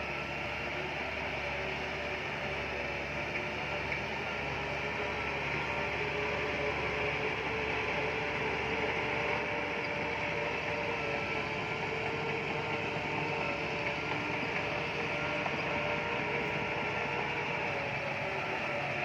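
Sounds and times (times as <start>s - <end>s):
bulldozer diesel engine under load: 0.0s - 19.0s
faint whining tones: 0.0s - 19.0s.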